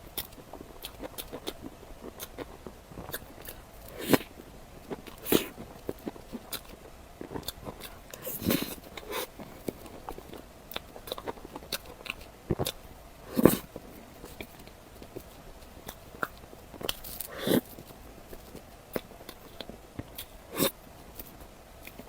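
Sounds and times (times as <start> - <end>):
person biting and chewing food: 0.2 - 22.0.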